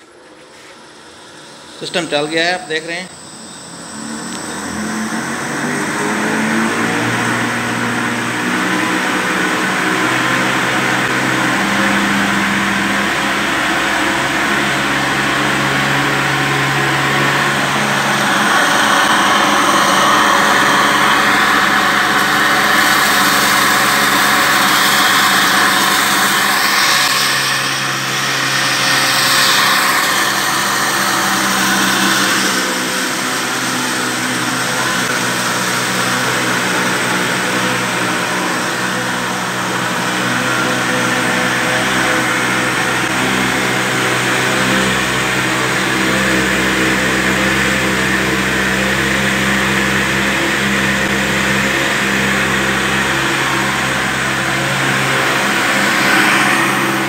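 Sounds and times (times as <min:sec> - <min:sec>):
flour mill machine hum: 0:00.0 - 0:57.0.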